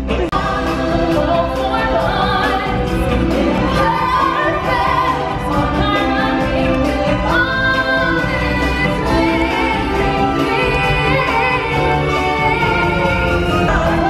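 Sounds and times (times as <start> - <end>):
singers and chorus holding notes: 0.4 - 14.0.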